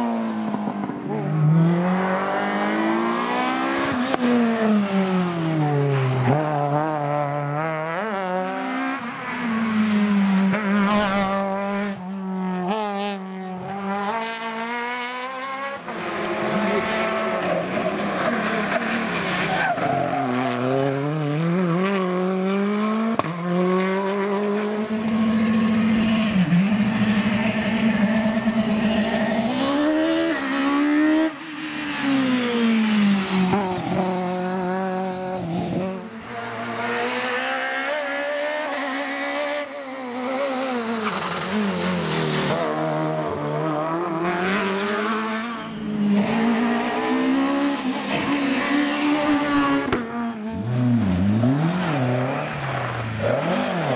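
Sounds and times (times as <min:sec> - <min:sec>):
rally car engine revving: 0:00.0 - 0:53.9.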